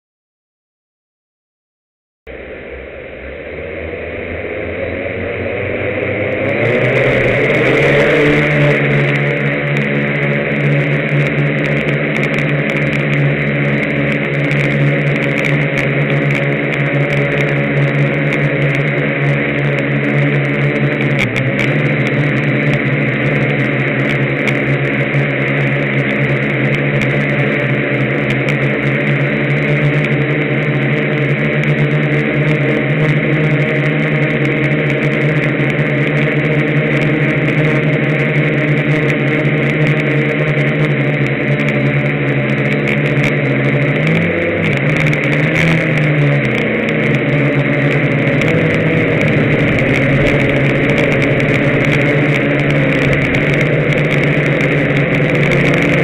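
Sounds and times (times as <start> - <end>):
drone motors buzzing: 2.3 - 56.0.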